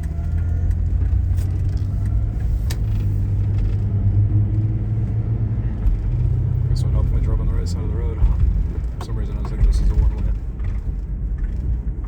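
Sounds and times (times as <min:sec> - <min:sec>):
car drivetrain rumbling drone: 0:00.0 - 0:12.0.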